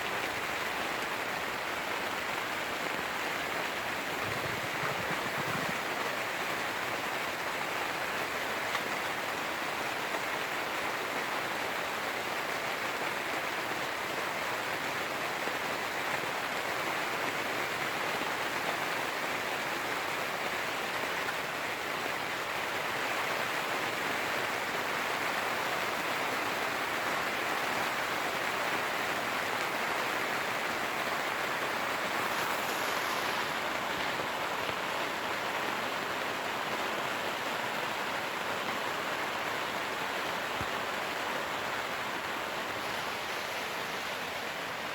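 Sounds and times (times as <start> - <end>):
heavy rain on a tent: 0.0 - 44.9.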